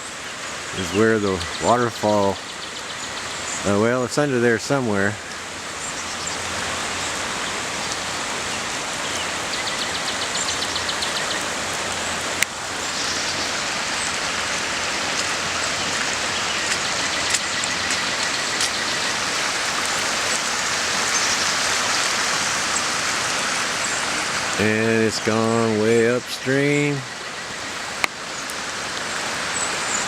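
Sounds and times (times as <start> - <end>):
creek rushing: 0.0 - 30.0.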